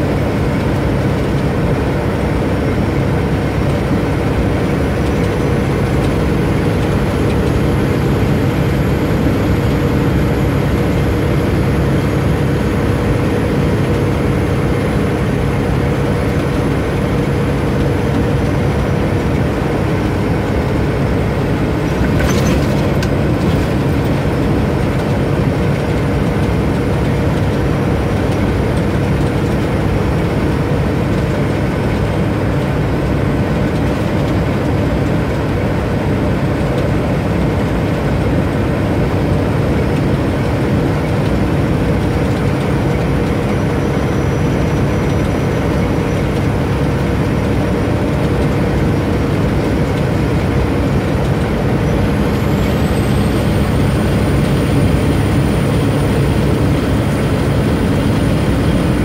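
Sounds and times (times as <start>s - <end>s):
truck engine drone: 0.0s - 59.0s.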